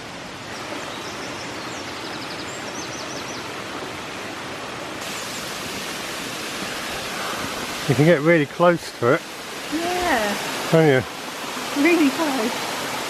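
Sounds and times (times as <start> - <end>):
waterfall and stream rushing: 0.0 - 13.0.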